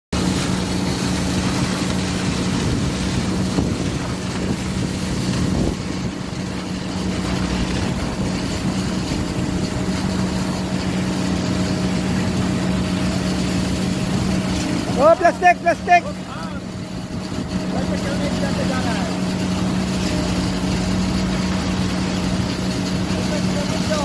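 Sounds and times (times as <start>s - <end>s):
diesel engine running: 0.1s - 24.0s.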